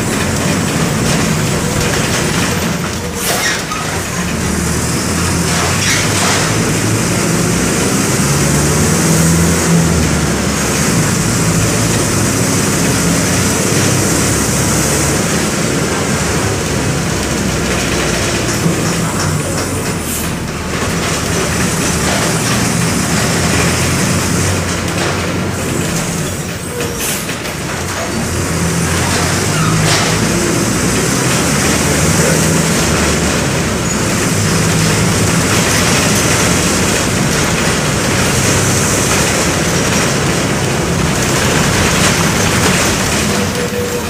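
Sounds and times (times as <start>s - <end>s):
bus diesel engine running: 0.0s - 44.0s
road and body noise: 0.0s - 44.0s.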